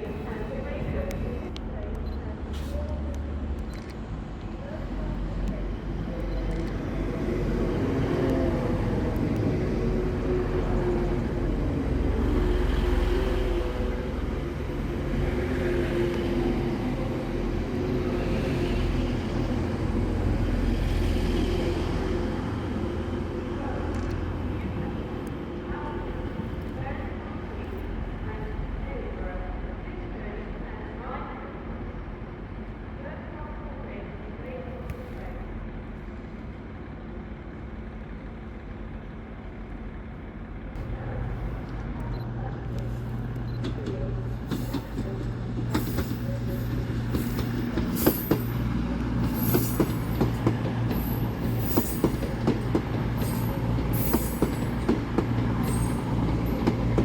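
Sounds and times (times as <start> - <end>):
train humming through station: 0.0 - 57.0.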